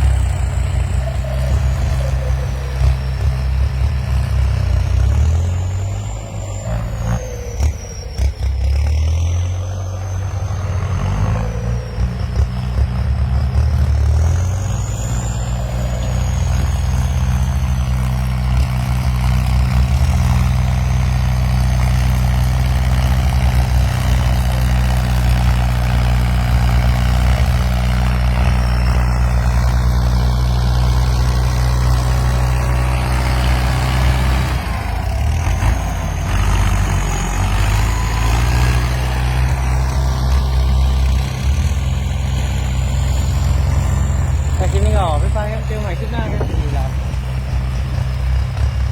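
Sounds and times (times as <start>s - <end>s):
tractor diesel engine drone: 0.0s - 48.9s.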